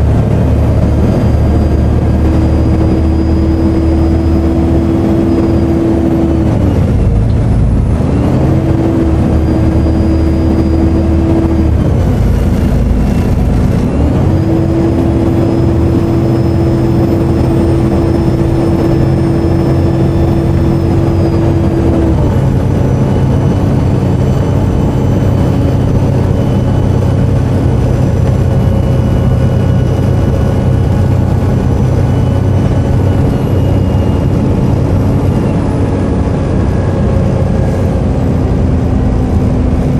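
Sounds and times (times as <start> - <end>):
bus diesel engine drone: 0.0 - 39.9
turbo whine: 0.0 - 39.9.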